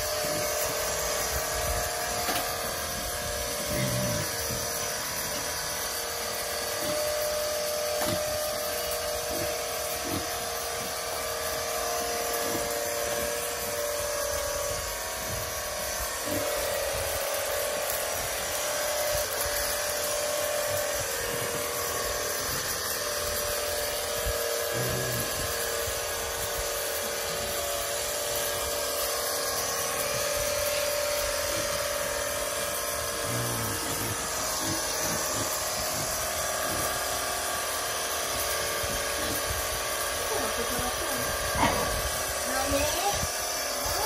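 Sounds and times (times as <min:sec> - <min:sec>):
electric pump motor hissing: 0:00.0 - 0:44.0.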